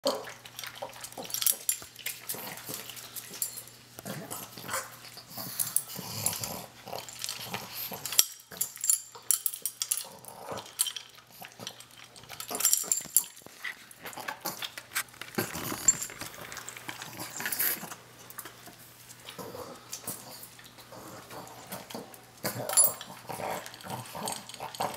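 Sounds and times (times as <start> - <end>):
kibble clattering against bowl: 0.0 - 18.7, 19.3 - 24.9
dog crunching dry kibble: 0.0 - 24.9.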